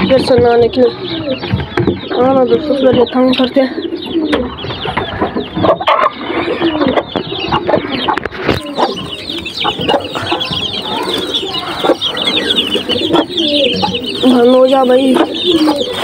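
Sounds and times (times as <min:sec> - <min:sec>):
chicks peeping: 0:00.0 - 0:16.0
hens clucking: 0:00.0 - 0:16.0.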